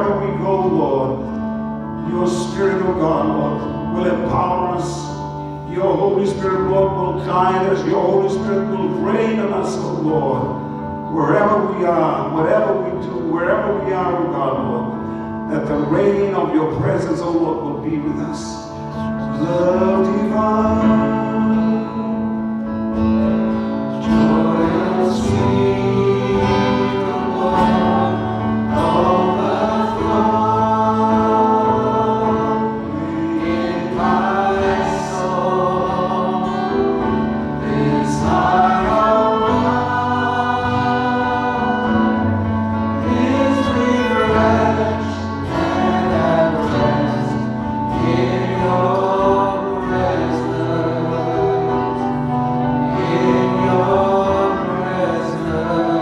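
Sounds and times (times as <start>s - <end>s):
instrumental backing with bass line: 0.0s - 56.0s
voices singing gospel melody: 0.0s - 56.0s.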